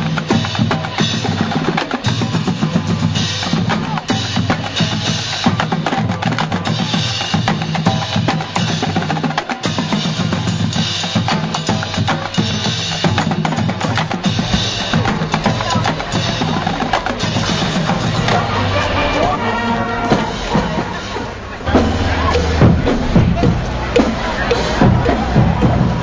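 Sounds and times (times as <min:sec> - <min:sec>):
marching drumline: 0:00.0 - 0:26.0.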